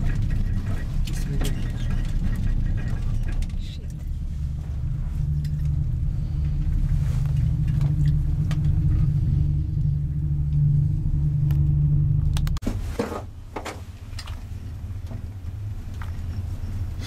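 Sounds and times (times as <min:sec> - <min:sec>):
cable car cabin rumble: 0:00.0 - 0:17.0.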